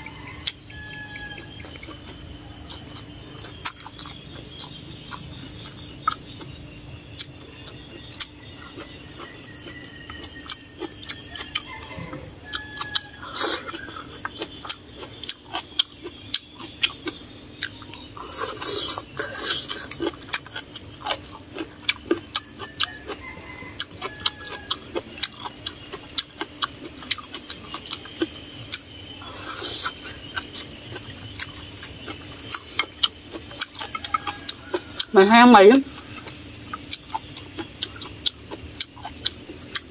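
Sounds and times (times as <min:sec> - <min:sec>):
chewing and mouth clicks: 0:00.3 - 0:35.2, 0:35.8 - 0:39.9.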